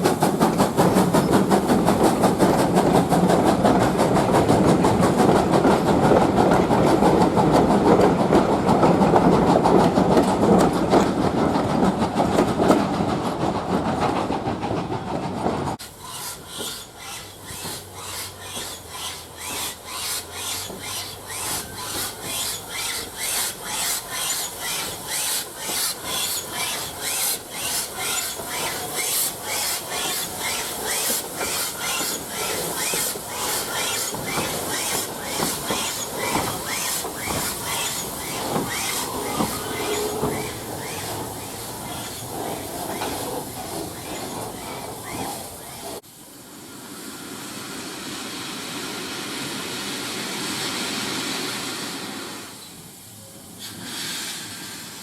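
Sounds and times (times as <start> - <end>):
train wheels clattering on rails: 0.0 - 46.1
train rumbling: 0.0 - 55.0.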